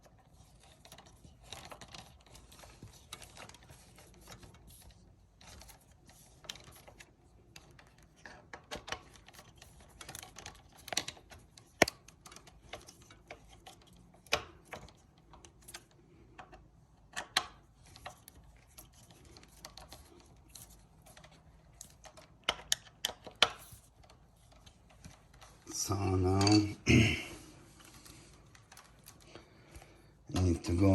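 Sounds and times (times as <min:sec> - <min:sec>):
light clicks and taps of parts: 0:00.0 - 0:26.6.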